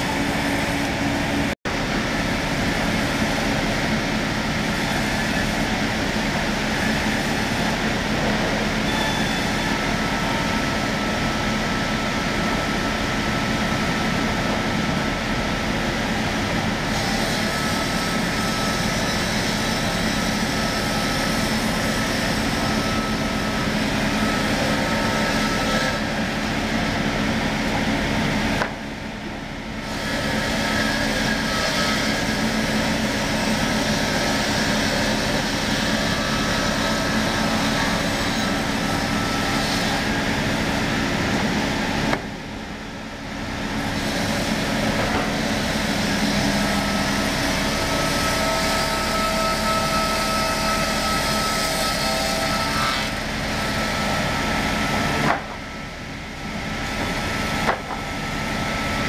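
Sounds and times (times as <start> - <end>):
power saw cutting wood: 0.0 - 15.0, 15.8 - 59.0.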